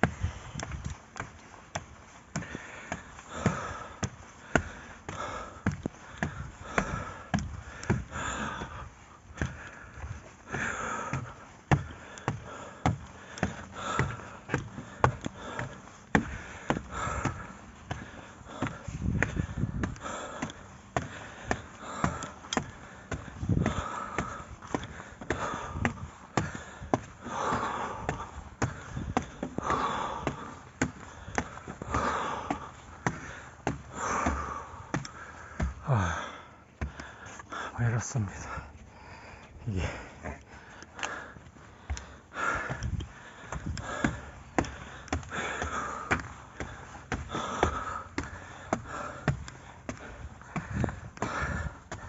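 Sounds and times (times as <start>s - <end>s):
heavy hissing breaths: 0.0s - 52.0s.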